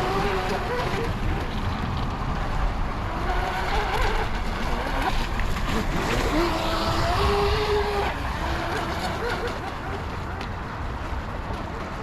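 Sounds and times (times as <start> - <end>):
electric speedboat whine: 0.0 - 12.0
wind rumbling on microphone: 0.0 - 12.0.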